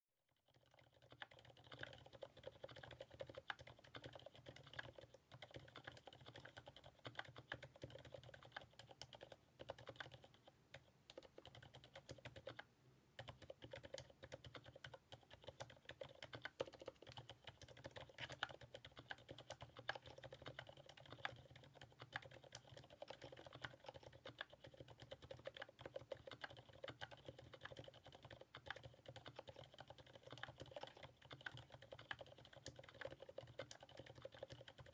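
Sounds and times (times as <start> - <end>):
quiet mechanical keyboard typing: 0.3 - 34.9.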